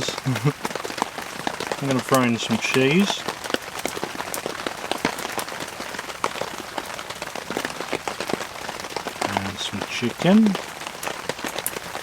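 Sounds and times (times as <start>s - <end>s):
heavy rain on a tent: 0.0s - 12.0s.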